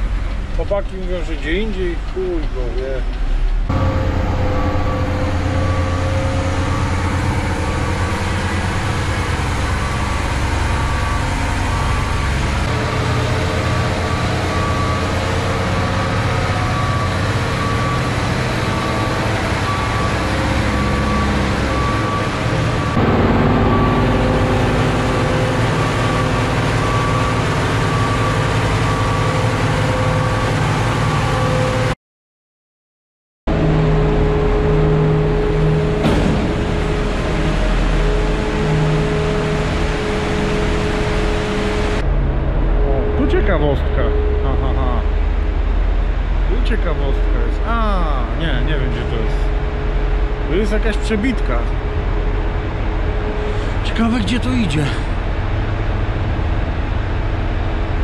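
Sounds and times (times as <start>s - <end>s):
diesel truck engine running: 0.0s - 32.0s, 33.5s - 58.0s.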